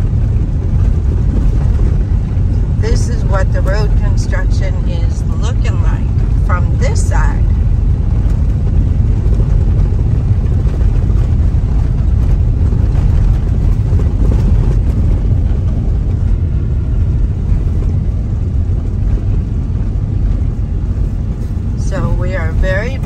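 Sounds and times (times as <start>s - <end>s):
car engine: 0.0s - 23.0s
car tyre and road noise: 0.0s - 23.0s.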